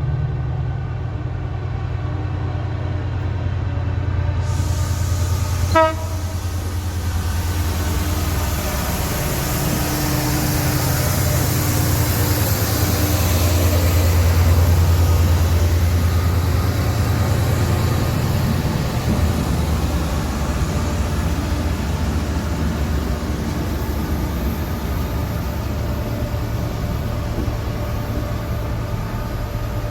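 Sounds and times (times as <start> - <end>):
train engine rumble: 0.0 - 29.9
train wheel noise: 0.0 - 29.9.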